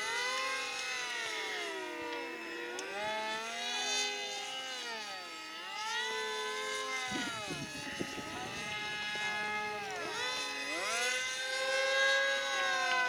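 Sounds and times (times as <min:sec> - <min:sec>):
model airplane motors whining: 0:00.0 - 0:13.0.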